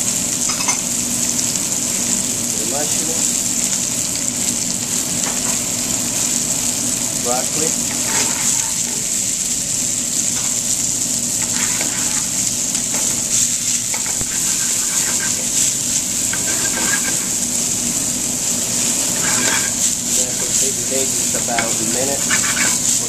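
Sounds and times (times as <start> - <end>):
vegetables sizzling in a frying pan: 0.0 - 23.0.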